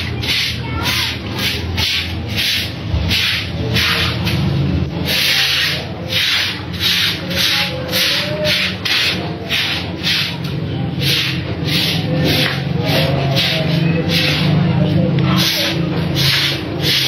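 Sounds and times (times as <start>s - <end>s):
brush scrubbing wet concrete: 0.0s - 17.0s.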